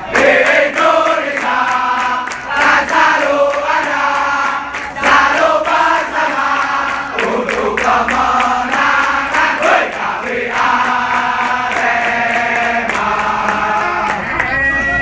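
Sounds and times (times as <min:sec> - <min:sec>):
crowd chanting: 0:00.0 - 0:14.5.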